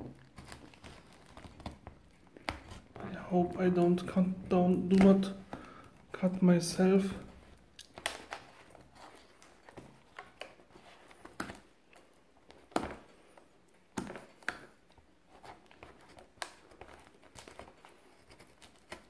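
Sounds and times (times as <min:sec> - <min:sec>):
plastic cracking: 0:00.0 - 0:06.2, 0:07.2 - 0:19.0.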